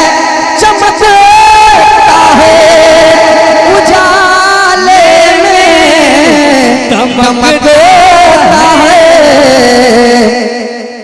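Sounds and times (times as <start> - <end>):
person singing devotional song: 0.0 - 11.0.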